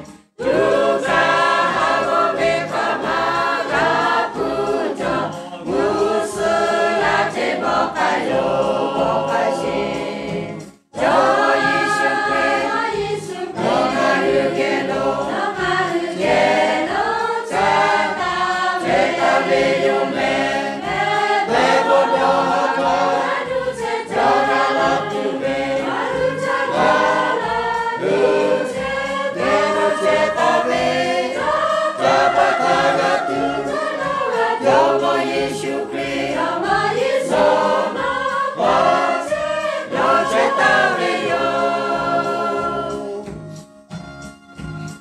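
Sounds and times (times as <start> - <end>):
choir singing a hymn: 0.0 - 43.6.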